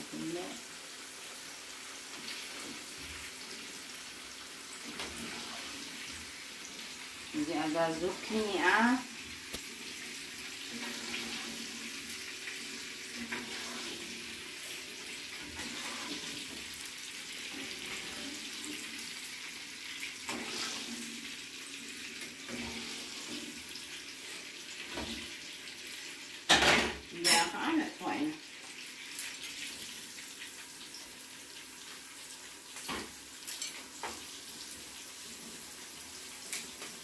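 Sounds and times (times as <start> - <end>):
vegetables sizzling in oil: 0.0 - 37.0.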